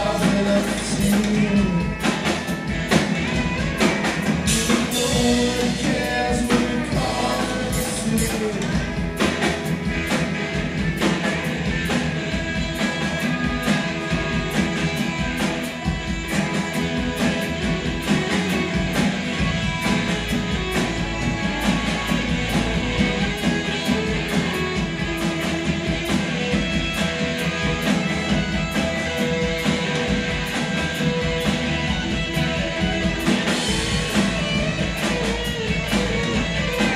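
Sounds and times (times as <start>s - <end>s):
bass guitar: 0.0s - 36.9s
drum kit beat: 0.0s - 36.9s
electric guitar: 0.0s - 36.9s.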